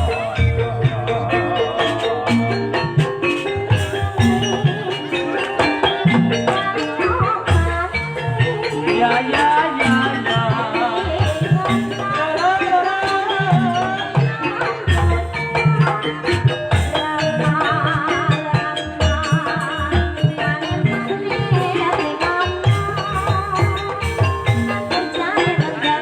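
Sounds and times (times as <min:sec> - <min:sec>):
hand drums beating: 0:00.0 - 0:26.0
person singing wavering melody: 0:00.0 - 0:26.0.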